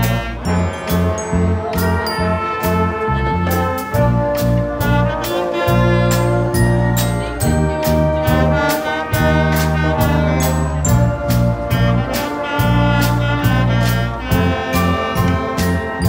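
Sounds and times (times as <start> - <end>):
brass band playing: 0.0 - 16.0
snare and bass drums beat: 0.9 - 16.0.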